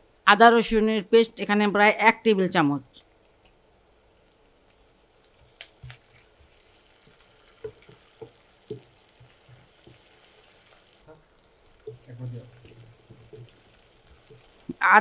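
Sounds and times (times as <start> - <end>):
onions frying in oil: 2.9 - 15.0.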